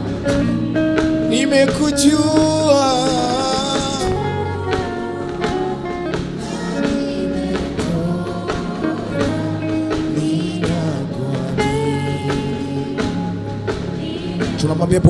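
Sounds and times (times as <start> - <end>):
drum and percussion beat: 0.0 - 15.0
held instrumental chords: 0.0 - 15.0.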